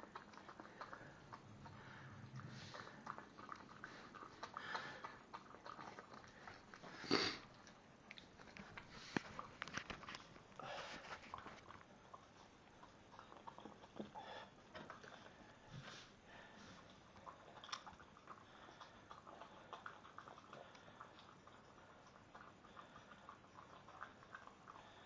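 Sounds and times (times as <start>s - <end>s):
dog chewing pasta: 0.0s - 15.7s, 16.8s - 25.0s.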